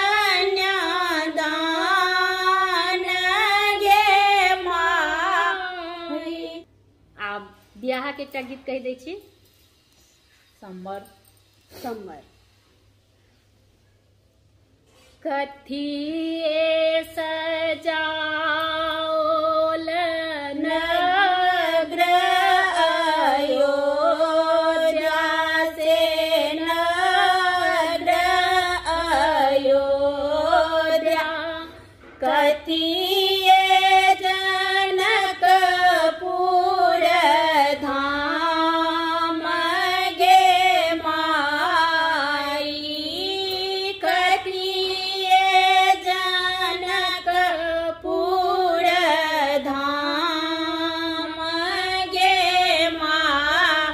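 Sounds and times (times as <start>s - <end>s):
women singing unaccompanied: 0.0s - 6.7s, 15.2s - 53.9s.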